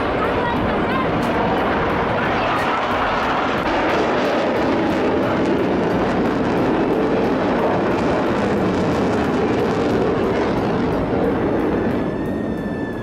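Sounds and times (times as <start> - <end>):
jet fighter flying past: 0.0 - 13.0.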